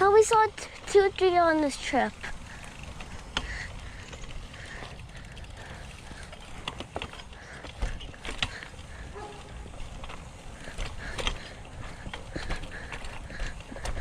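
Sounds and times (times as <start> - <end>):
bicycle tyres on dirt trail: 0.0 - 14.0
sharp clicks and rattles: 0.0 - 14.0.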